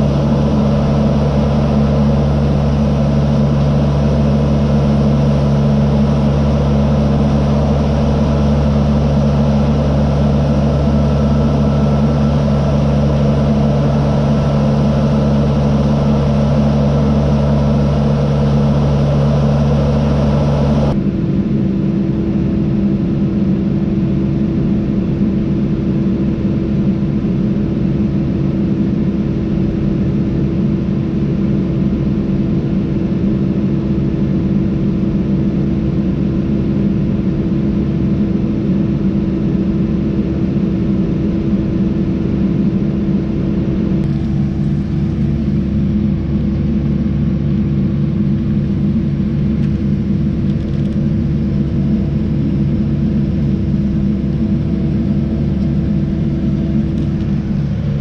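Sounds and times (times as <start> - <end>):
steady hum: 0.0 - 33.2, 35.9 - 58.0.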